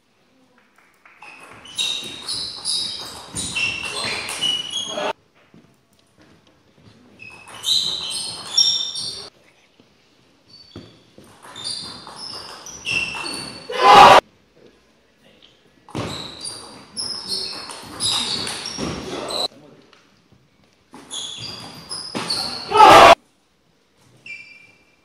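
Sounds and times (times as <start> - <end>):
shoes squeaking on floor: 1.1 - 14.2, 15.9 - 19.5, 20.8 - 23.2, 24.0 - 25.0.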